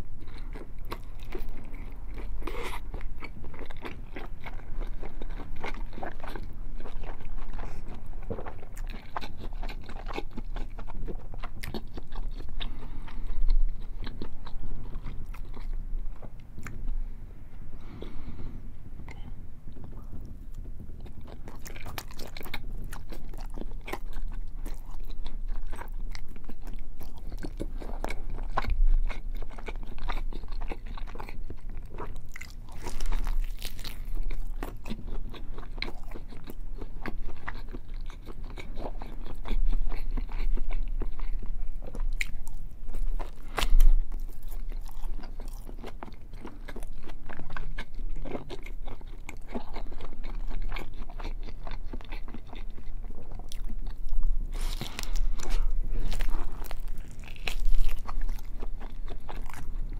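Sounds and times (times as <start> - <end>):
biting and chewing bacon: 0.0 - 16.9, 19.0 - 59.9.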